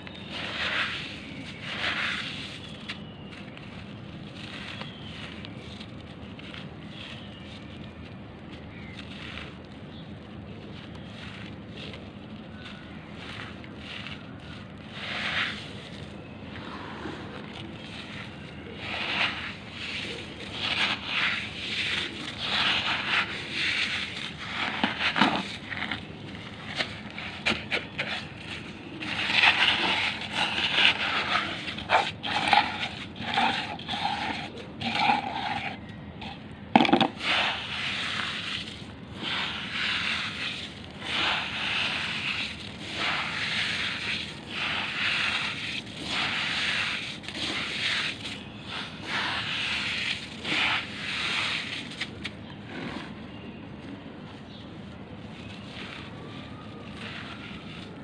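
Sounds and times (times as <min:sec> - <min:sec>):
charcoal crunching by hand: 0:00.0 - 0:58.0.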